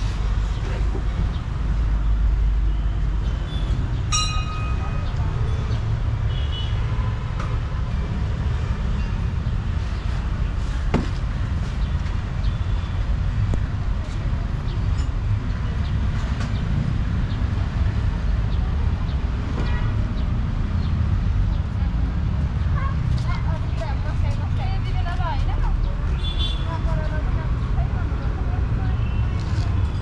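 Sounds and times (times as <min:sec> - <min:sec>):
low street rumble: 0:00.0 - 0:30.0.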